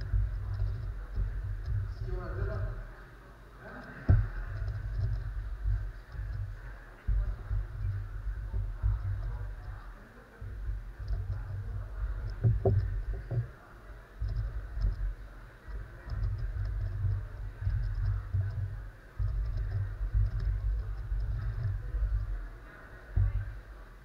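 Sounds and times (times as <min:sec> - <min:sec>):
hands rumbling on a table: 0:00.0 - 0:03.0, 0:04.0 - 0:24.0.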